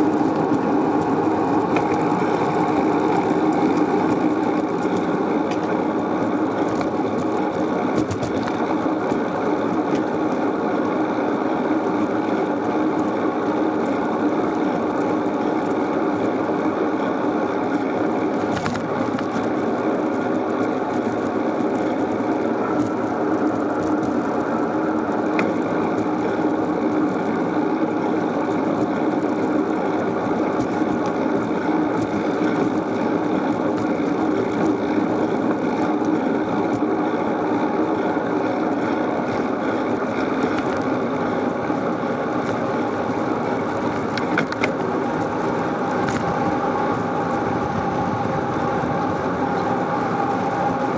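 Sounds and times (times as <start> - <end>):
bicycle rattles and clicks: 0.0 - 50.9
wind and tyre rush: 0.0 - 50.9.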